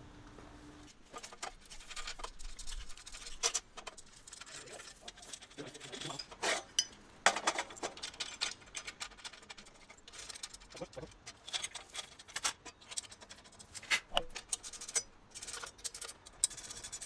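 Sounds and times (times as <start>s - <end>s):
metal clicks and rattles: 1.1s - 17.0s.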